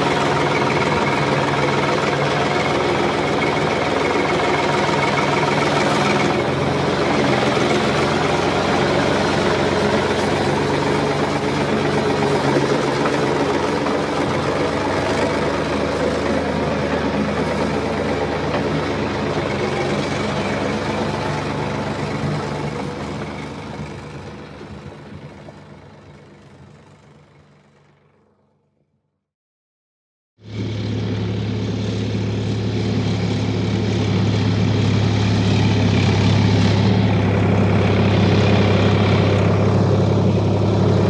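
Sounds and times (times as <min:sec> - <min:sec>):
heavy engine running: 0:00.0 - 0:28.7, 0:30.4 - 0:41.0.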